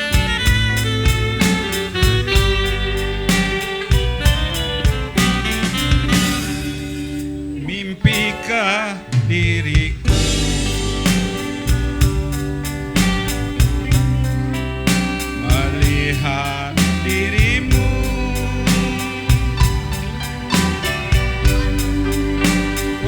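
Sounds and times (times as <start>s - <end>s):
sharp drum strokes: 0.0s - 7.4s, 9.2s - 23.0s.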